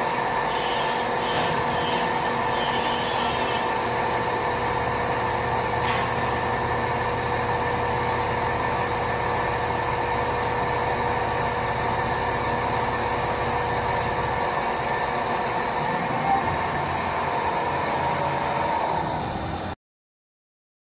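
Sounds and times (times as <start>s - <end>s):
lathe machine hum with whining: 0.0s - 19.8s.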